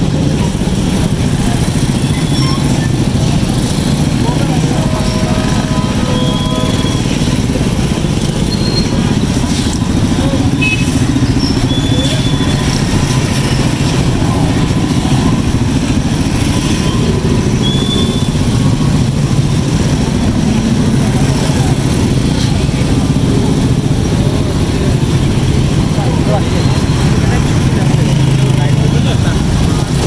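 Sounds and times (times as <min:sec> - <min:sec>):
motorcycle engines rumbling: 0:00.0 - 0:30.0.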